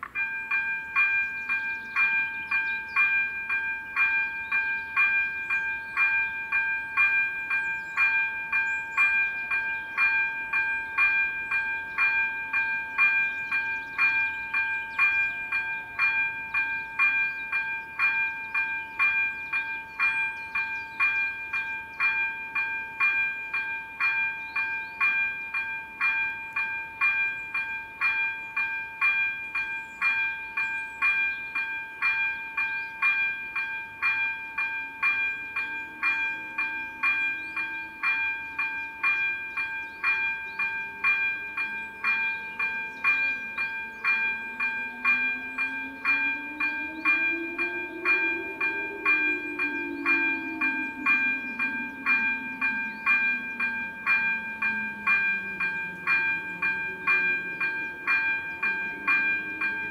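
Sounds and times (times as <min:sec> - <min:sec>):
electronic level crossing bell: 0:00.0 - 0:59.9.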